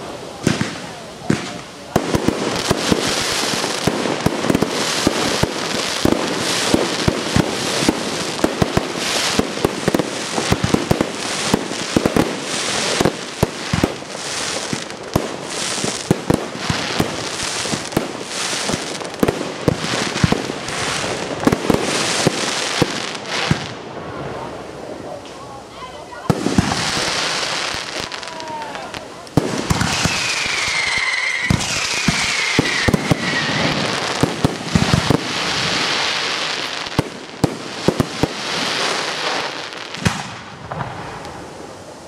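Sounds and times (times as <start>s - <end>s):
firework crackling: 0.0s - 42.0s.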